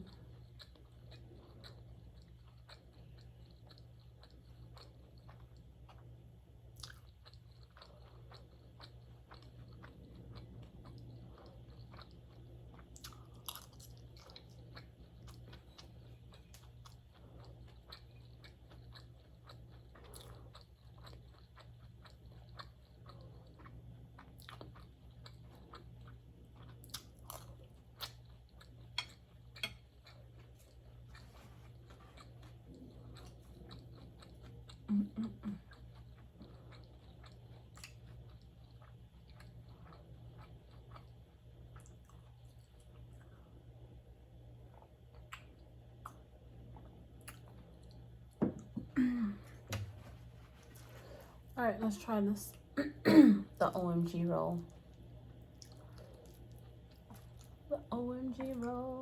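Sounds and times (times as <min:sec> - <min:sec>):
food crunching: 0:00.0 - 0:43.4, 0:44.4 - 0:51.6, 0:53.5 - 0:58.9
person chewing: 0:00.0 - 0:51.6, 0:54.6 - 0:57.7
steady low hum: 0:00.0 - 0:59.0.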